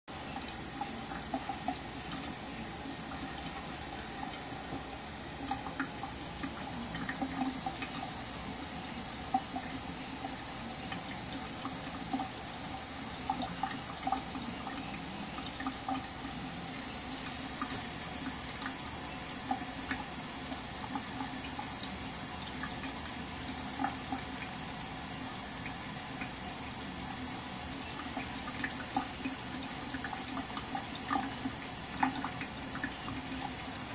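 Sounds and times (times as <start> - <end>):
tap water running into sink: 0.1 - 33.9.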